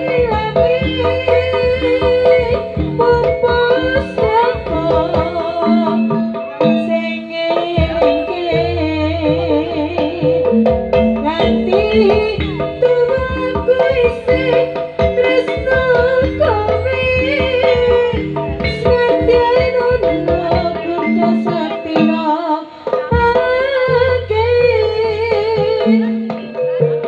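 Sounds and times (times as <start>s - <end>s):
drum strokes: 0.0s - 27.0s
wavering melody line: 0.0s - 27.0s.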